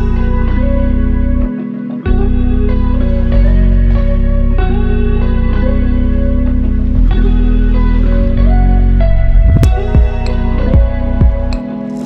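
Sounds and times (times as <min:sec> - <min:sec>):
calm new-age instrumental music: 0:00.0 - 0:12.0.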